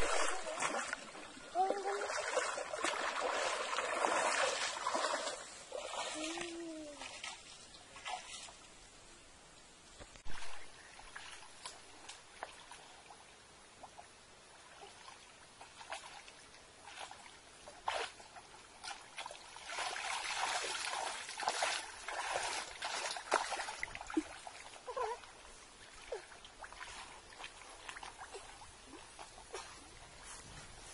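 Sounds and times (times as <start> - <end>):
creek water splashing: 0.0 - 9.2, 9.9 - 30.9.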